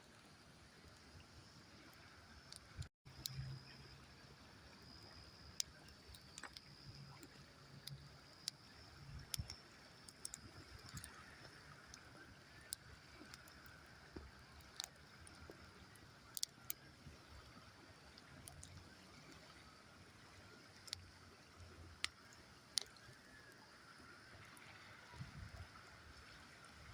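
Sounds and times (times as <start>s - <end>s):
campfire crackling: 0.0s - 26.9s
low steady hiss: 0.0s - 26.9s.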